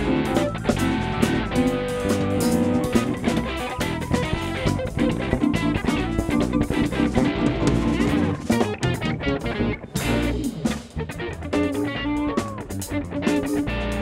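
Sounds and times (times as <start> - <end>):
drum hits: 0.0 - 11.9
live funk band playing: 0.0 - 14.0.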